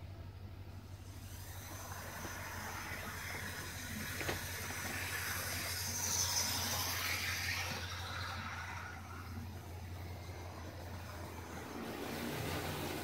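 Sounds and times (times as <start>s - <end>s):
model train whirring past: 0.0s - 13.0s
steady low hum: 0.0s - 13.0s.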